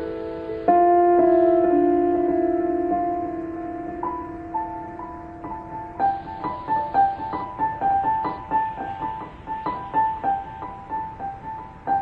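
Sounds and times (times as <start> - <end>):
piano-like keyboard melody: 0.0 - 12.0.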